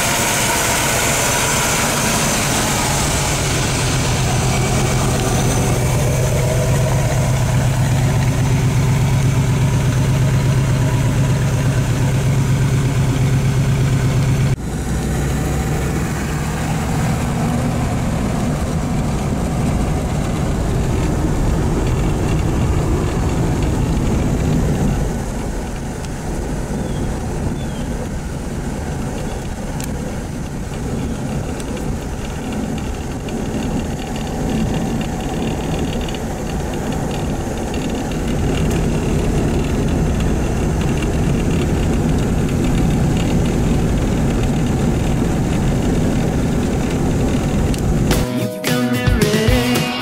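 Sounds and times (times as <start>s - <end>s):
car engine running: 0.0s - 48.4s
road noise: 0.0s - 50.0s.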